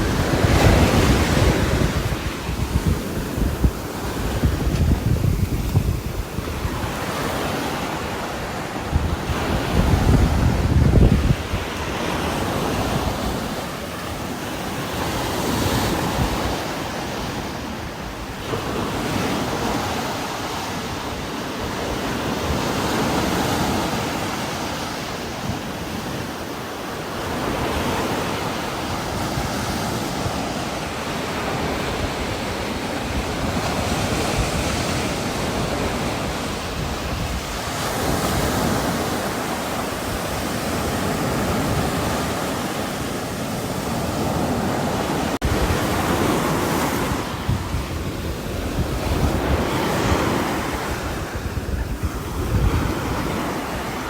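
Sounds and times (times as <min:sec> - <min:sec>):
wind gusting through trees: 0:00.0 - 0:54.0.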